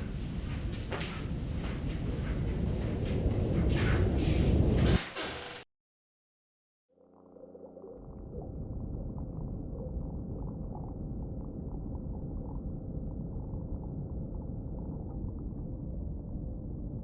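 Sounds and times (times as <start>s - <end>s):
low rumble: 0.0s - 5.0s, 7.8s - 17.0s.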